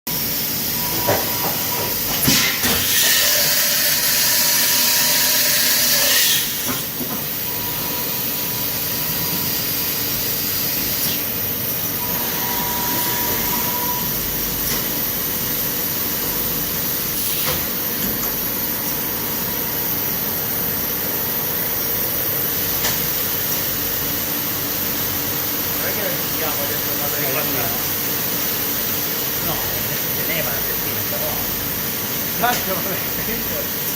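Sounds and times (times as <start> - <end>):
machining centre running: 0.1 - 33.9.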